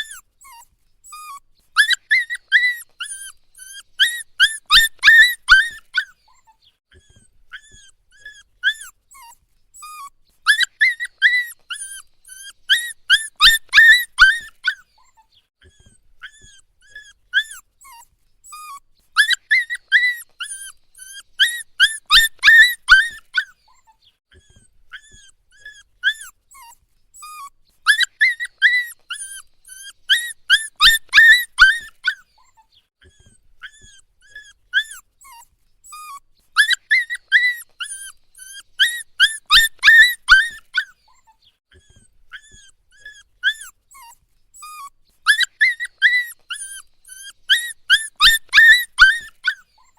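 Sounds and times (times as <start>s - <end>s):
puppy whining: 0.0s - 49.9s.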